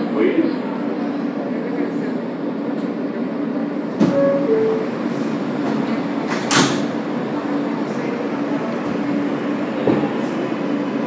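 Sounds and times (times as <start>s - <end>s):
subway car electrical hum: 0.0s - 11.0s.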